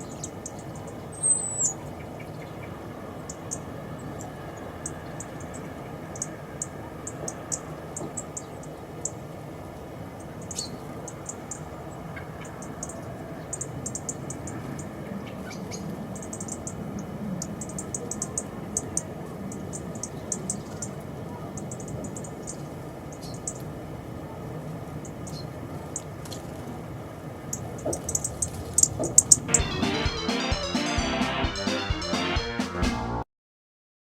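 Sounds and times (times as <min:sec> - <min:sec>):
small birds chipping: 0:00.0 - 0:29.5
background hiss: 0:00.0 - 0:31.4.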